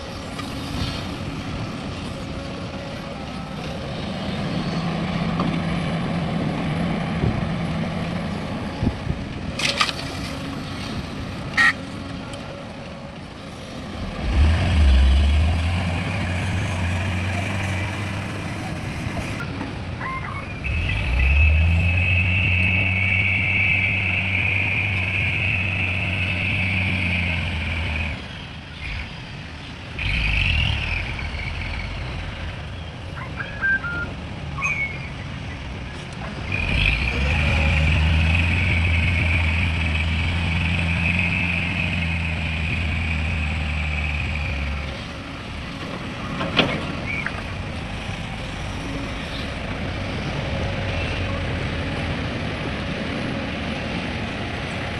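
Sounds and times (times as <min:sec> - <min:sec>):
diesel engine working under load: 0:00.0 - 0:54.9.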